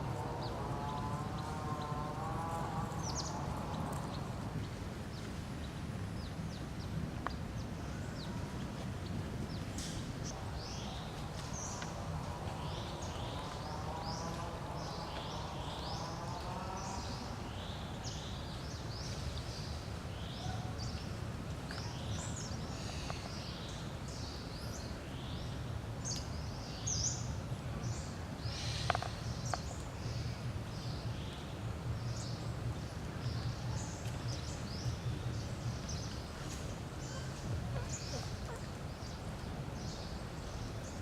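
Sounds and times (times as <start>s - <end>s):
low outdoor rumble: 0.0s - 41.0s
small birds chirping: 0.0s - 41.0s.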